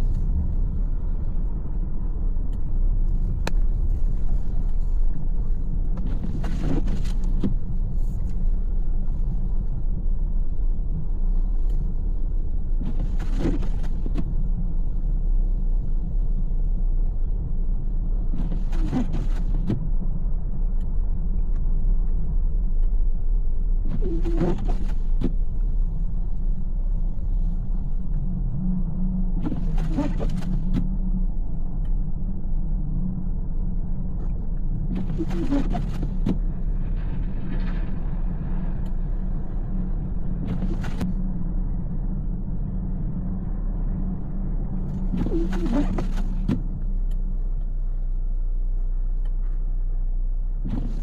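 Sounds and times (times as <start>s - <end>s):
car interior driving rumble: 0.0s - 51.0s.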